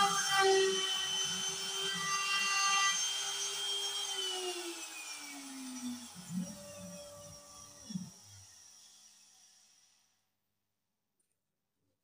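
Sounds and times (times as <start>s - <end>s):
router spindle whining: 0.0s - 10.0s.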